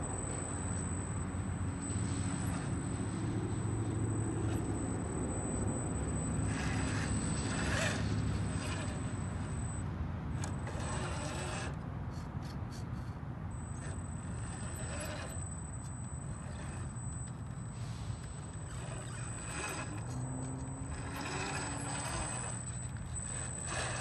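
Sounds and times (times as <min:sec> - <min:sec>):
electric motor and gears whirring: 0:00.0 - 0:24.0.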